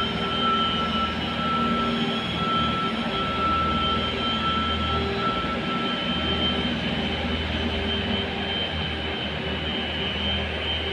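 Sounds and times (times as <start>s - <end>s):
high whining tones: 0.0s - 10.9s.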